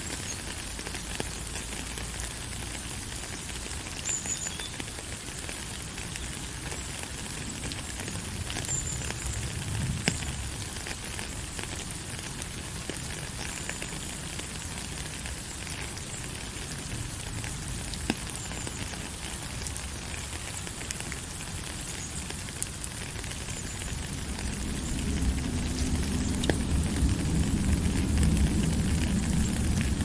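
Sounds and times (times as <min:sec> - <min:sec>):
sharp raindrop ticks: 0:00.0 - 0:30.0
steady rain falling: 0:00.0 - 0:30.0.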